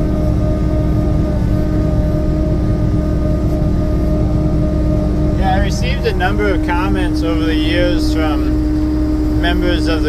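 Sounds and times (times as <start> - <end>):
diesel tractor engine under load: 0.0 - 10.0.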